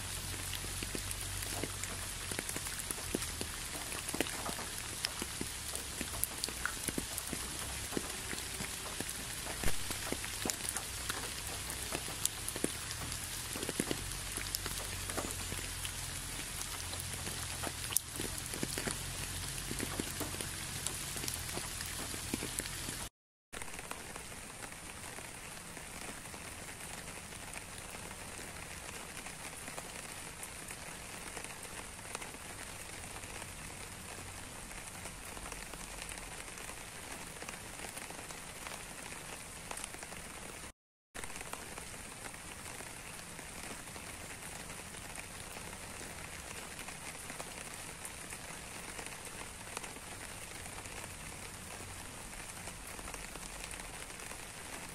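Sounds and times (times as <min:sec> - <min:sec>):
steady rain pattering: 0:00.0 - 0:54.9.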